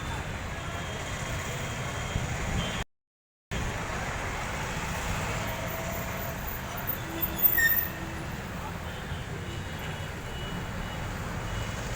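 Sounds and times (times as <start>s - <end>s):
outdoor traffic noise: 0.0s - 2.9s, 3.5s - 11.9s.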